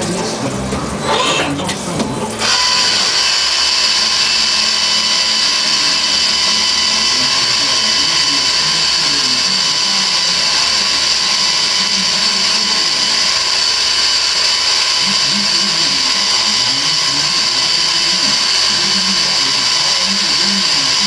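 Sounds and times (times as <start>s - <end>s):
cnc spindle whine: 2.4s - 21.0s.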